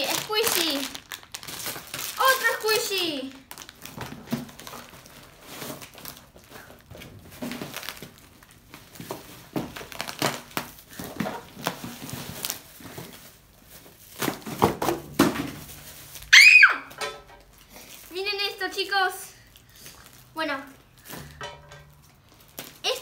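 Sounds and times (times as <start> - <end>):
plastic packaging crinkling: 0.0 - 16.7, 19.5 - 23.0.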